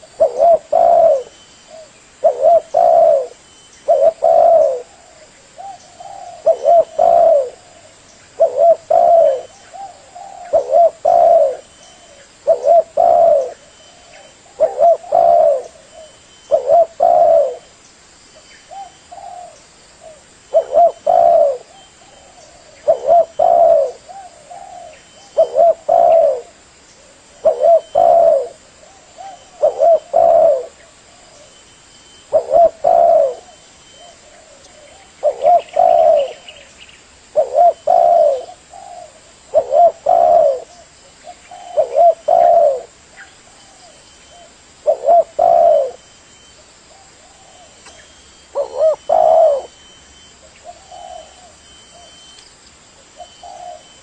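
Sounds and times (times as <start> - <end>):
dove cooing: 0.0 - 17.8, 18.7 - 52.4, 53.0 - 54.0.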